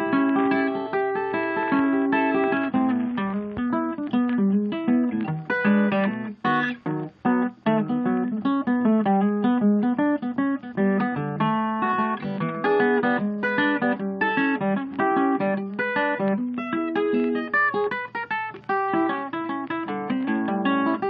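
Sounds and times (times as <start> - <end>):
solo blues guitar picking: 0.0 - 21.0.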